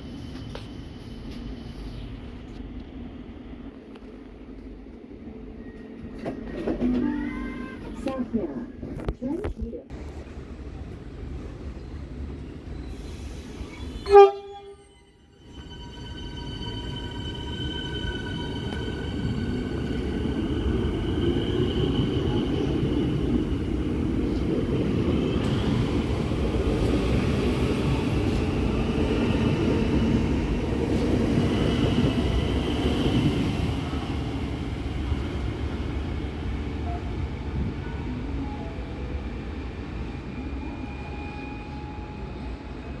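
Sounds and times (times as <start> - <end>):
high whining train tones: 0.0 - 9.1, 10.0 - 43.0
train wheels rumbling on rails: 0.0 - 14.6, 15.5 - 43.0.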